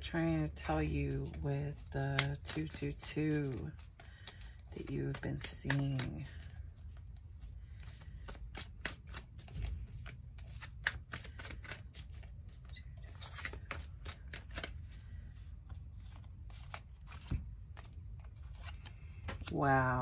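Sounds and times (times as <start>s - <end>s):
cards being shuffled: 0.7s - 19.6s.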